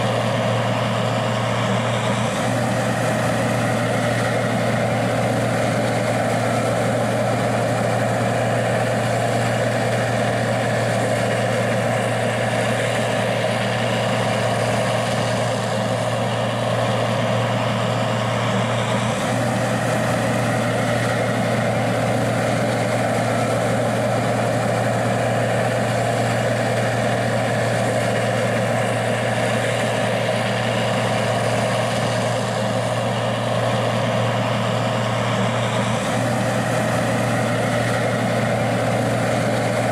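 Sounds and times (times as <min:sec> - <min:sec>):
combine diesel engine running: 0:00.0 - 0:39.9.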